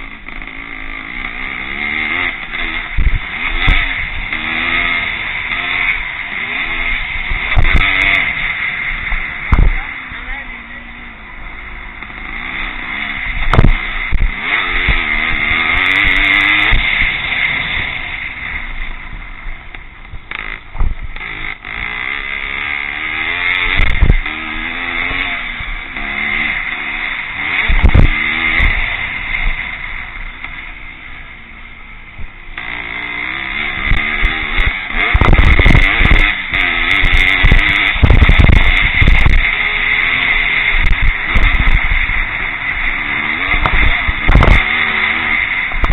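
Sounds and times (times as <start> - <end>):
motocross bikes revving: 0.0 - 45.9.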